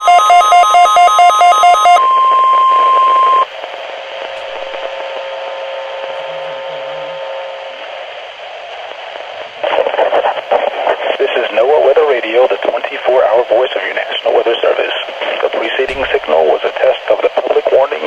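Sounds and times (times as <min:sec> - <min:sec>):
faint hum: 0:00.0 - 0:18.0
radio static hiss: 0:02.0 - 0:18.0.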